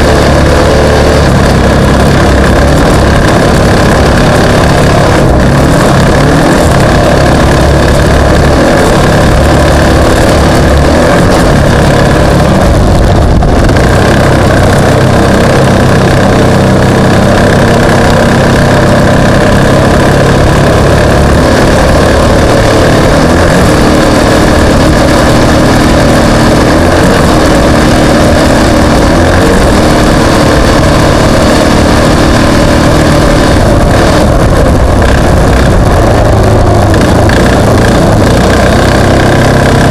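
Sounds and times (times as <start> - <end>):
racing vehicle engine running: 0.0 - 39.9.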